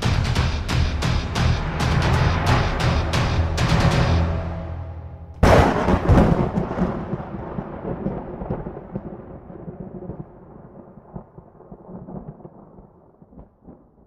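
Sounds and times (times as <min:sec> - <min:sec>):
thunder rumbling and cracking: 0:00.0 - 0:14.0.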